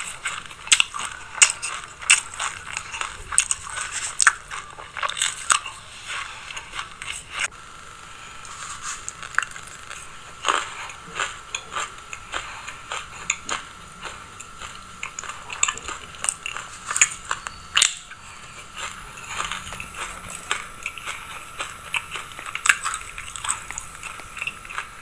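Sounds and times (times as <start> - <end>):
chewing crunchy seeds: 0.0 - 7.5, 8.1 - 25.0.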